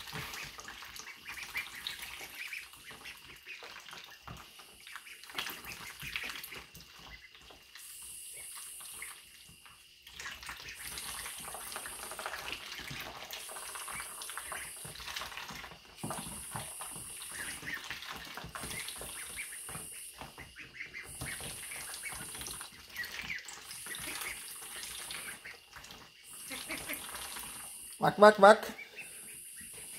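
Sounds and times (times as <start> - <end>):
ducklings dabbling in liquid: 0.0 - 29.9.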